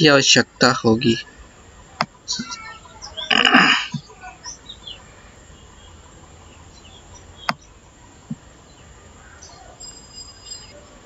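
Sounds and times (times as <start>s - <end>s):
faint bird chirps: 0.6s - 11.0s.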